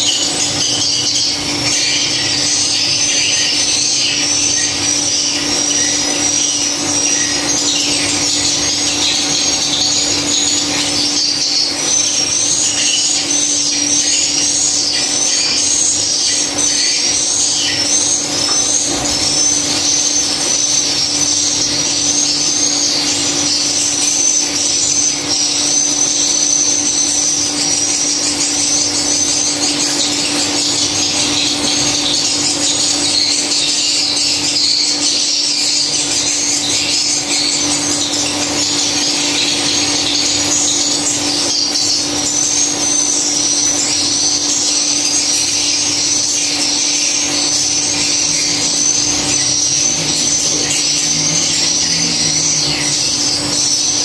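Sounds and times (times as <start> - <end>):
steady low hum: 0.0 - 54.0
swiftlets twittering: 0.0 - 54.0.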